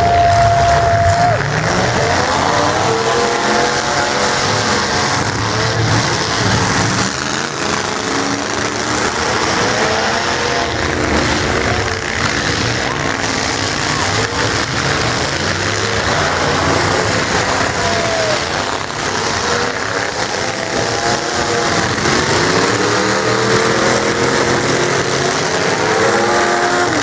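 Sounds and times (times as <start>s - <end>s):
truck engines revving: 0.0s - 27.0s
trucks ramming: 0.0s - 27.0s.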